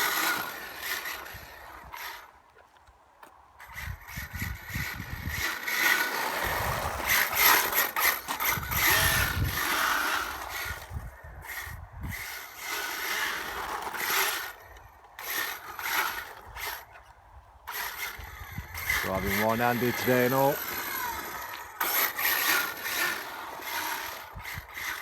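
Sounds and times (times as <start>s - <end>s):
electric motor whining: 0.0s - 2.3s, 3.6s - 25.0s.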